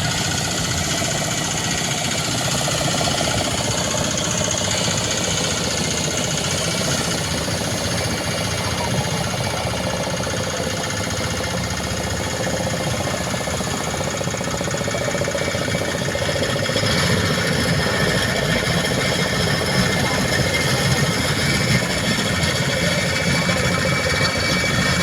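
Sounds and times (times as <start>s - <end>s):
motorboat engine droning: 0.0s - 25.0s.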